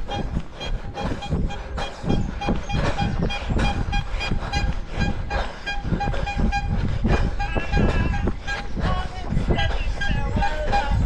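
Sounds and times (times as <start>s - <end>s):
running footsteps: 0.0s - 11.0s.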